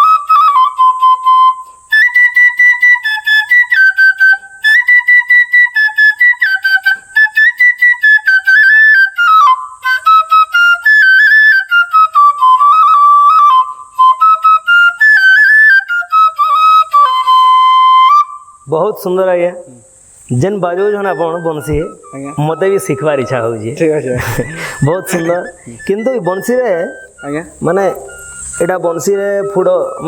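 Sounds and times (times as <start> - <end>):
bamboo flute melody: 0.0 - 18.7, 20.3 - 30.0.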